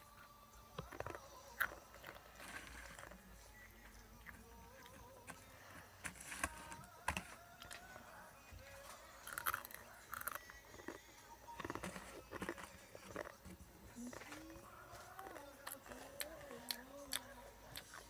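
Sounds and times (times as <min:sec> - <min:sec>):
crunching dry noodles: 0:00.8 - 0:18.0.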